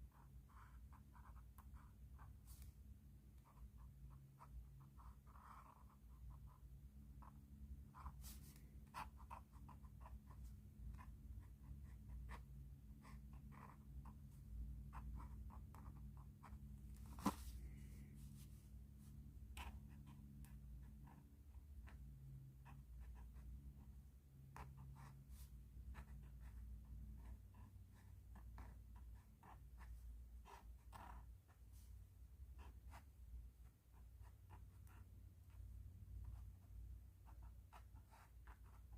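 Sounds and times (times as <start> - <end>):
pen scratching on paper: 0.0 - 17.8, 19.5 - 31.6, 32.5 - 38.9.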